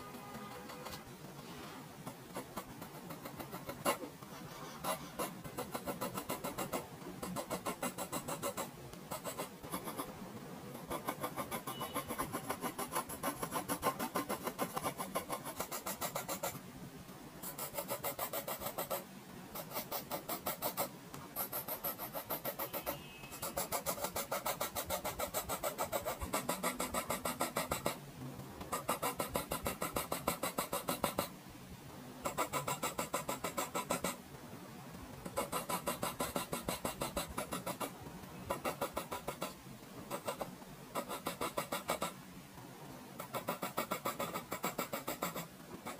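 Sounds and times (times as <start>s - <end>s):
pencil scratching on paper: 2.1s - 16.6s, 17.4s - 28.0s, 28.7s - 31.3s, 32.2s - 34.2s, 35.2s - 42.2s, 43.2s - 45.9s.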